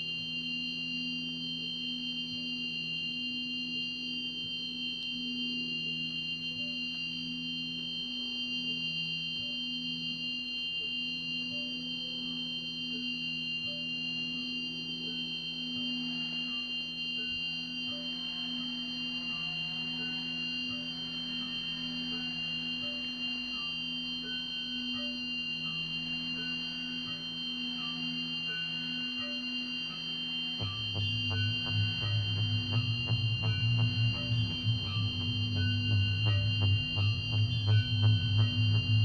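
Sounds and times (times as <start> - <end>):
faint wavering tones: 0.0 - 39.0
pulsing electronic drone: 0.0 - 39.0.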